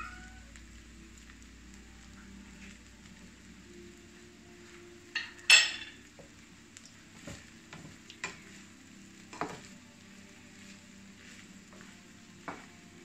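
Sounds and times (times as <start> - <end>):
low frying sizzle: 0.0 - 13.0.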